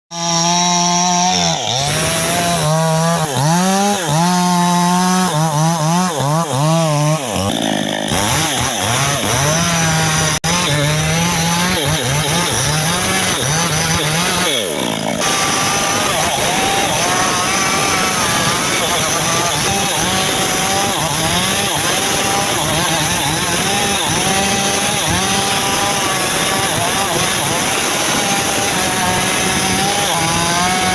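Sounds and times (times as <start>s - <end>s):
chainsaw cutting wood: 0.1s - 30.9s.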